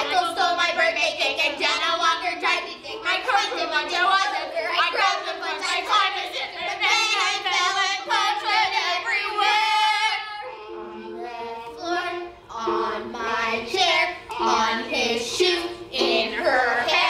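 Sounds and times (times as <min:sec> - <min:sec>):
girls singing a pop song: 0:00.0 - 0:17.0.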